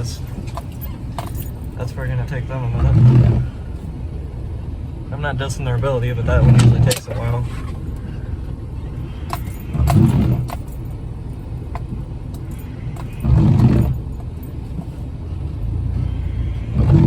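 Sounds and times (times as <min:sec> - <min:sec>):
engine running with throttle surges: 0:00.0 - 0:17.0.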